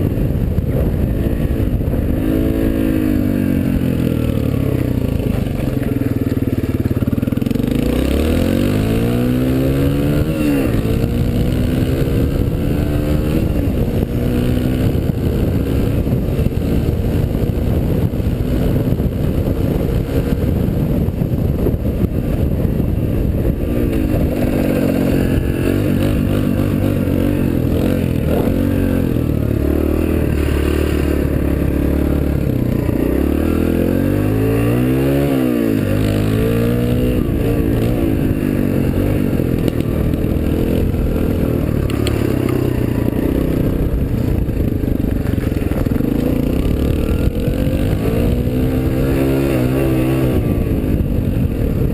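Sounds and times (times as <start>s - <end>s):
dirt bike engine revving and shifting: 0.0s - 51.9s.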